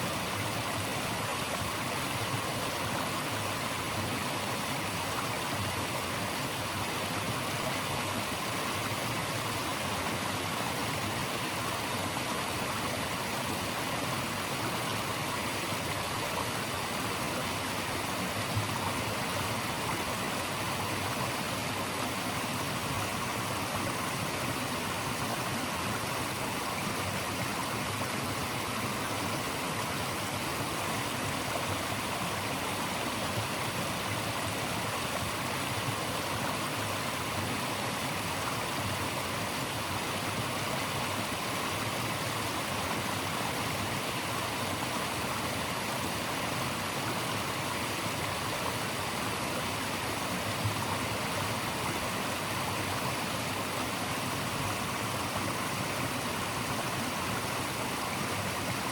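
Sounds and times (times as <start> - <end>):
stream flowing water: 0.0 - 58.9.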